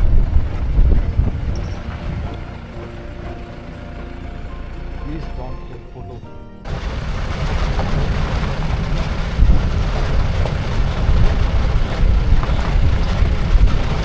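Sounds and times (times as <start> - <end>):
vehicle rumbling on rough track: 0.0 - 14.0.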